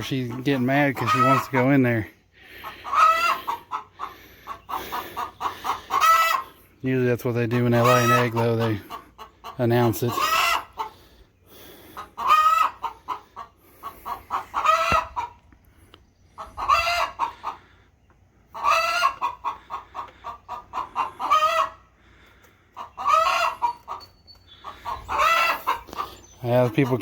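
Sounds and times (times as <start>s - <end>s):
hen cackling: 0.0s - 6.8s, 7.4s - 15.4s, 16.3s - 27.0s.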